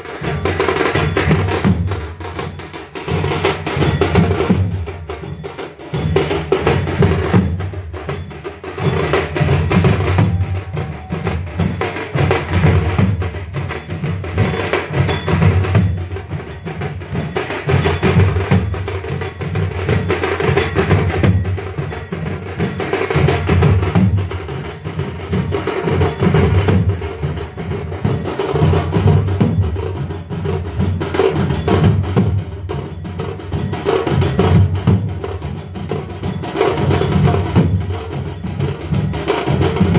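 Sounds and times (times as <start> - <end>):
drums with sharp clicking strokes: 0.0 - 39.9.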